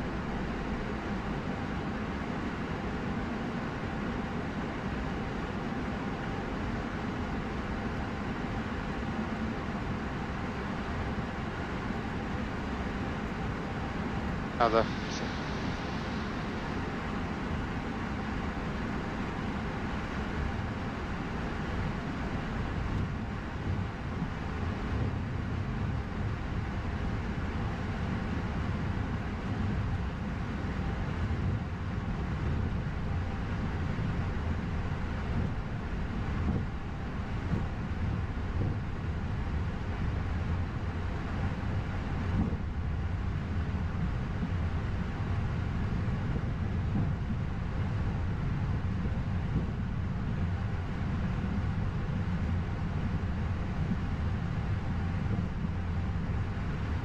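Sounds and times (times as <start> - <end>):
aircraft engines rumbling: 0.0 - 57.0.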